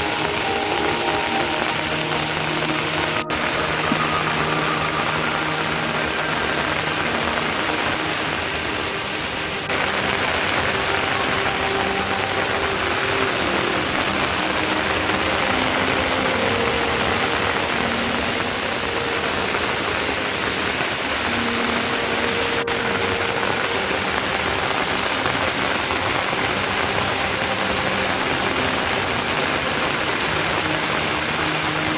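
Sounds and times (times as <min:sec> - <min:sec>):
rain pattering on surfaces: 0:00.0 - 0:31.9.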